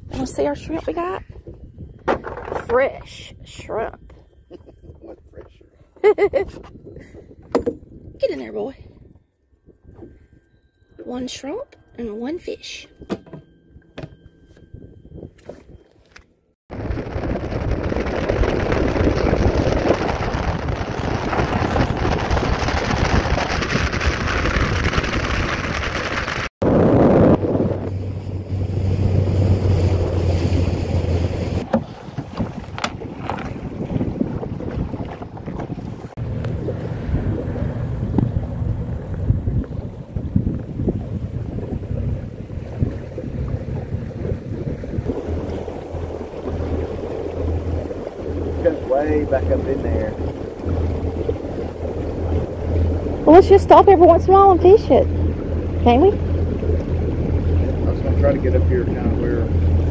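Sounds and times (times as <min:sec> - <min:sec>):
wind rushing over microphone: 0:00.0 - 0:10.5, 0:16.7 - 0:59.9
boat motor drone: 0:09.3 - 0:59.9.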